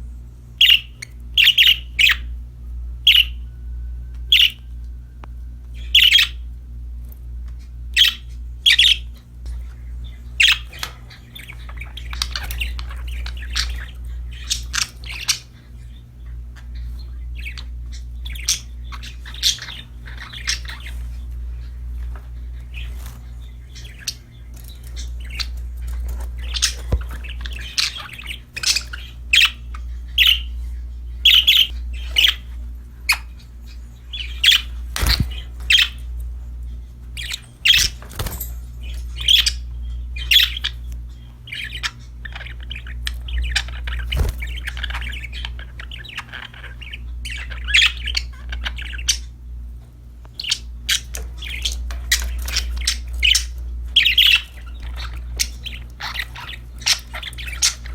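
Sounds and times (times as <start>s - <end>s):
steady low hum: 0.0s - 57.9s
budgerigars chirping and squawking: 0.5s - 3.5s, 4.2s - 4.8s, 5.7s - 57.9s.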